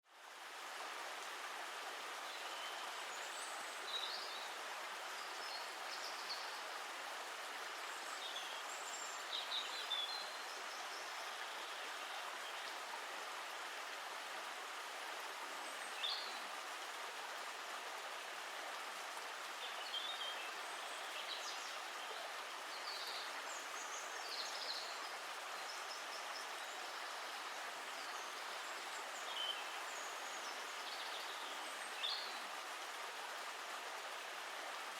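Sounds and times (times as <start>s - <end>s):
stream babbling: 0.1s - 34.9s.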